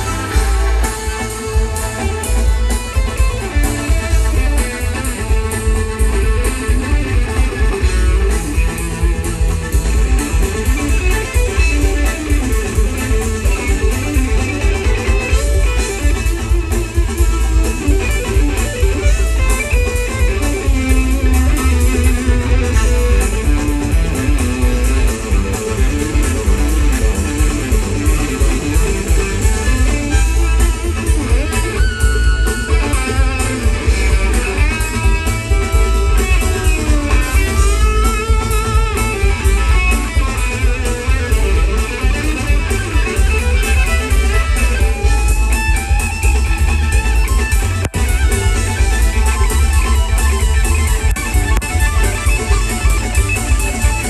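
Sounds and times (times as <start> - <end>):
electric guitar: 0.0 - 54.0
live band playing: 0.0 - 54.0.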